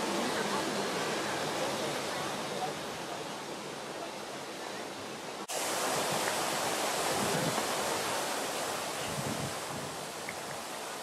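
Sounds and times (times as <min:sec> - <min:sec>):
fountain jets splashing: 0:00.0 - 0:11.0.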